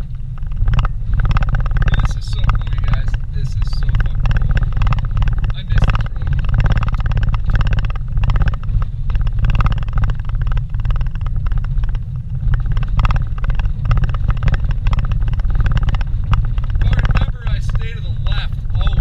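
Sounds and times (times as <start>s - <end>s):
engine and tyres rumbling: 0.0s - 19.0s
knocks and rattles over bumps: 0.0s - 19.0s.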